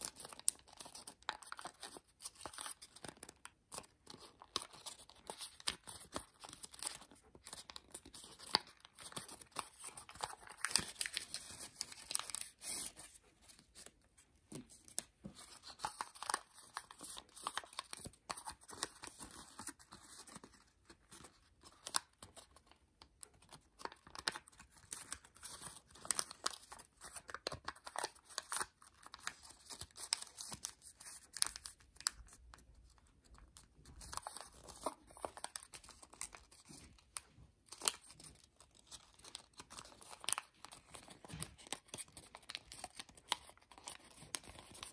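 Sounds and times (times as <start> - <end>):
paper crinkling as folded: 0.0 - 44.9.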